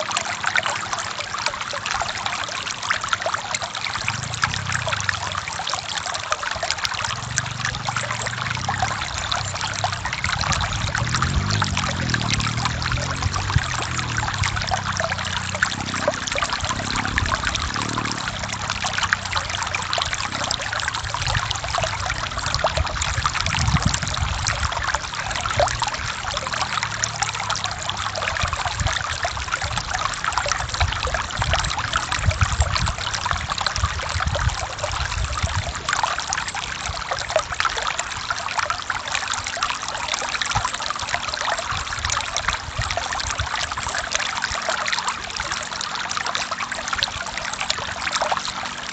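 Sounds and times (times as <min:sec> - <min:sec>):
stream running over rocks: 0:00.0 - 0:48.9.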